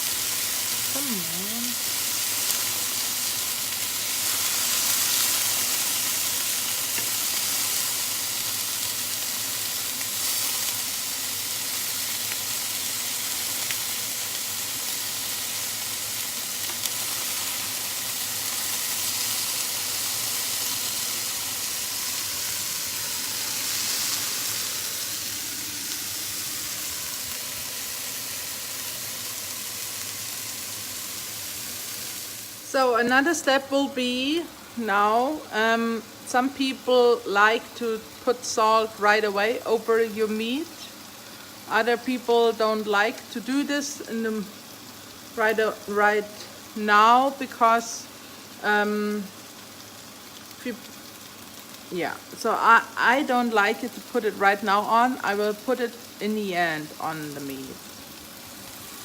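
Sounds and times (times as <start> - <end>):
chicken sizzling in hot pan: 0.0 - 59.0.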